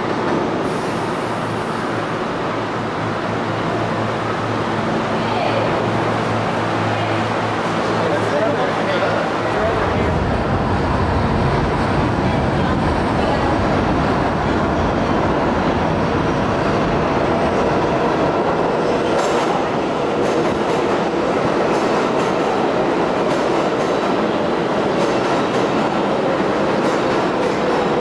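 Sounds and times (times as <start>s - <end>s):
subway train wheels rumbling on rail: 0.0s - 28.0s.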